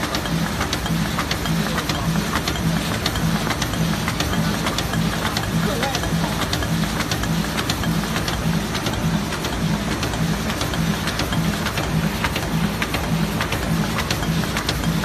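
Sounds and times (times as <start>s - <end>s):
die-cutting machine clattering: 0.0s - 15.0s.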